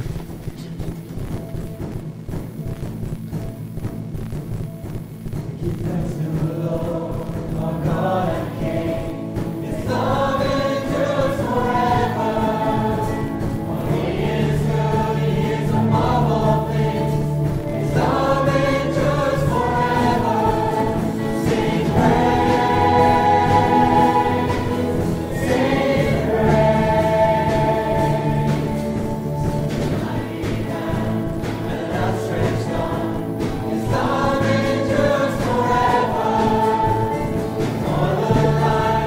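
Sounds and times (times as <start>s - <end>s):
worship music instrumental backing: 5.6s - 39.0s
choir singing: 6.1s - 39.0s.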